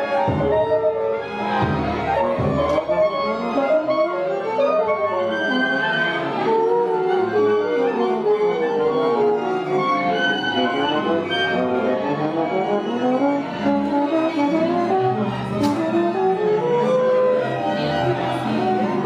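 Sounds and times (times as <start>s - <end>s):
bowed strings: 0.0s - 19.0s
orchestra playing: 0.0s - 19.0s.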